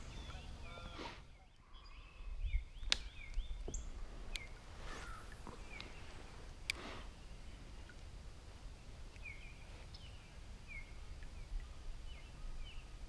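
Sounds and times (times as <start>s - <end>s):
birds chirping: 0.0s - 8.0s, 8.6s - 13.0s.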